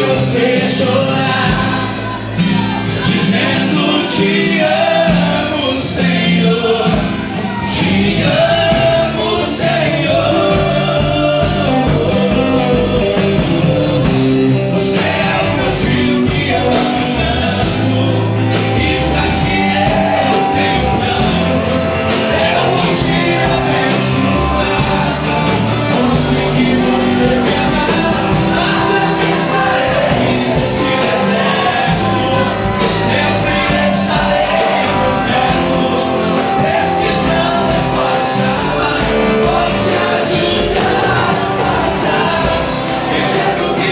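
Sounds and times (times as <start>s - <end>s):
gospel band playing upbeat song: 0.0s - 43.9s
singing: 0.0s - 43.9s
steady drum beat: 0.0s - 43.9s.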